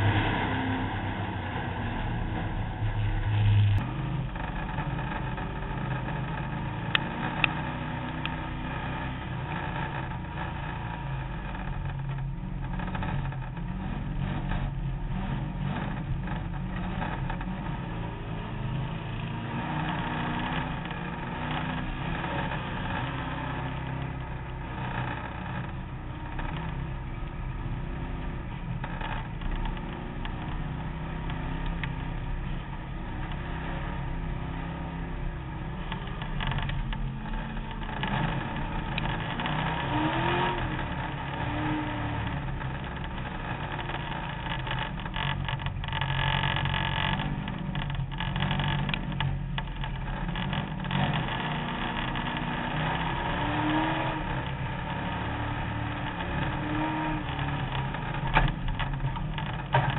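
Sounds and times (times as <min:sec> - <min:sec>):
race car engine running: 0:00.0 - 0:59.9.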